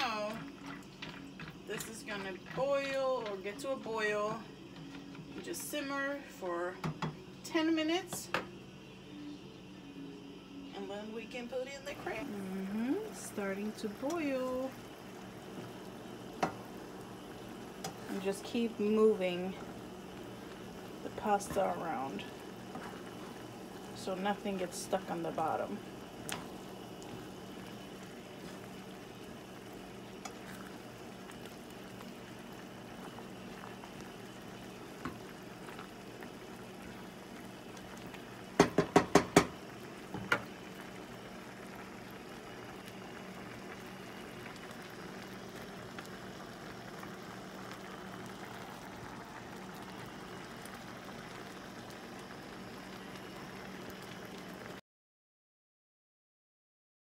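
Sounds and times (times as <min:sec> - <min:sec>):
pasta simmering in skillet: 0:00.0 - 0:07.8, 0:10.7 - 0:54.8.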